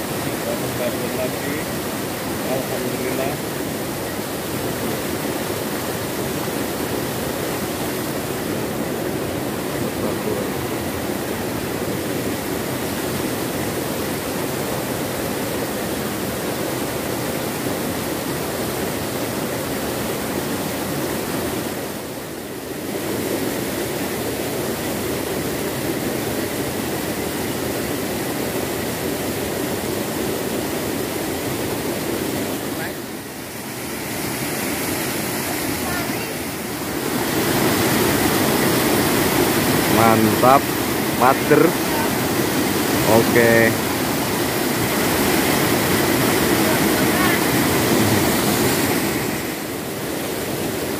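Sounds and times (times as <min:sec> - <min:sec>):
waterfall pouring into pool: 0:00.0 - 0:50.9.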